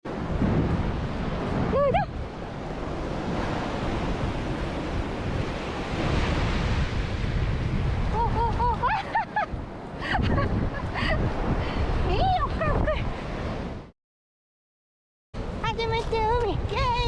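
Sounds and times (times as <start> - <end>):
surf washing: 0.1 - 13.8
wind buffeting microphone: 0.1 - 13.9, 15.4 - 17.0.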